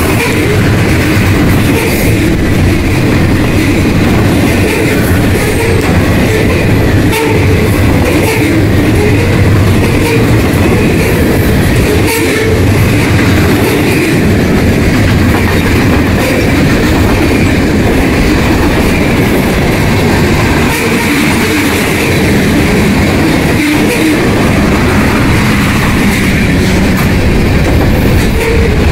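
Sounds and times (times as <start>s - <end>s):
wheels clacking at rail joints: 0.0s - 28.9s.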